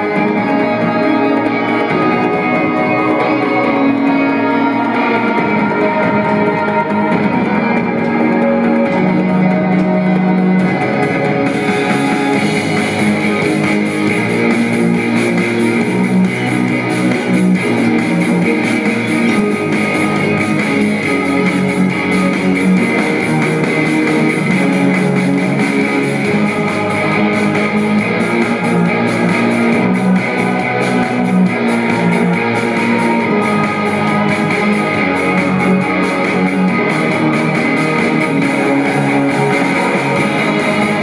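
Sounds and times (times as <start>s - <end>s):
guitar music: 0.0s - 41.0s.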